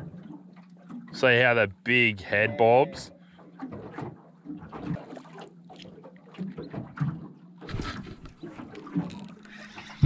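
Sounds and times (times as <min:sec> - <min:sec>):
waves slapping against boat hull: 0:00.0 - 0:01.9, 0:03.4 - 0:10.0.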